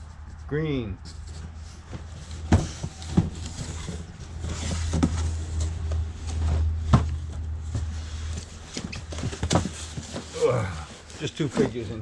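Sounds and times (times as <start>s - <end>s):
plastic rustle: 1.1s - 6.8s, 7.4s - 12.0s.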